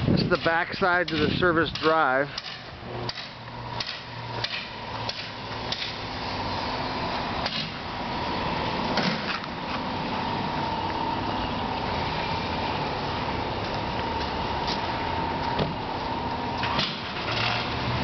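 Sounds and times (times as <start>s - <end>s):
mechanical hum with high whine: 0.0s - 18.0s.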